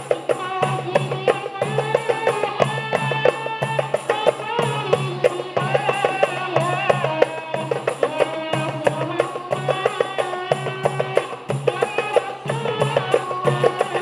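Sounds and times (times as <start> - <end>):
girls singing: 0.0 - 14.0
hand drums beating: 0.0 - 14.0
large barrel drum: 0.0 - 14.0.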